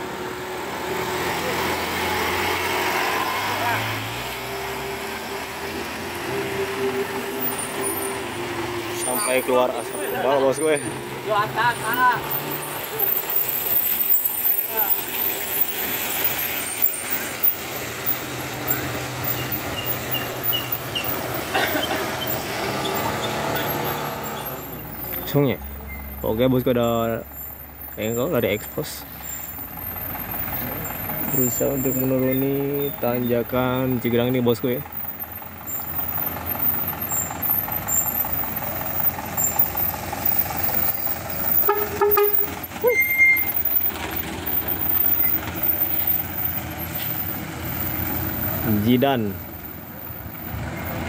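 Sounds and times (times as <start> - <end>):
motorcycles passing: 0.0 - 34.6, 35.5 - 51.0
truck diesel engine running: 0.0 - 51.0.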